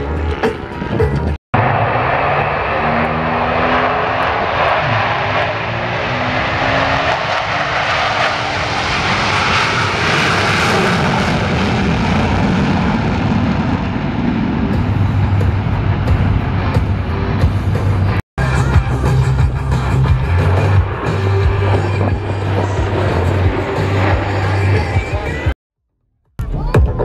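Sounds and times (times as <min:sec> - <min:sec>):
jet engines roaring: 0:00.0 - 0:25.6.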